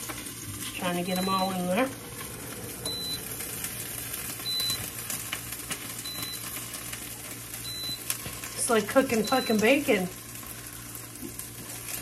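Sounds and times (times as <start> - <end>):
food sizzling with pops: 0.0 - 12.0.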